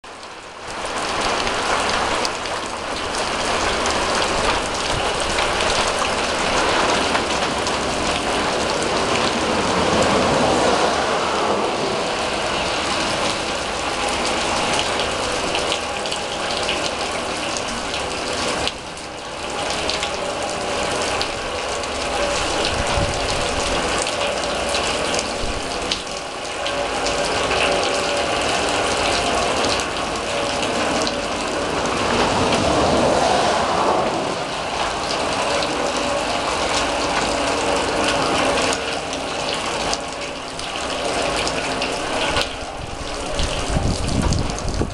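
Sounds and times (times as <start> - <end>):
heavy rain on metal drum: 0.0 - 44.9.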